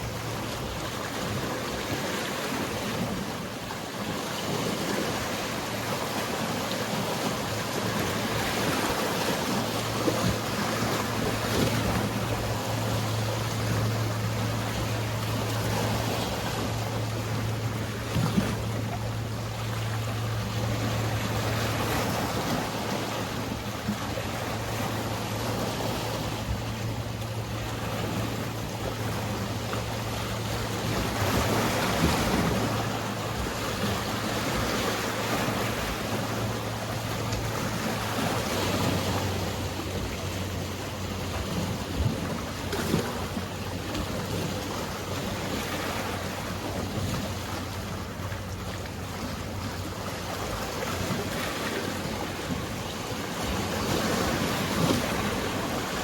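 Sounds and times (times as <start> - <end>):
boat engine hum: 0.0 - 56.0
sea waves washing: 0.0 - 56.0.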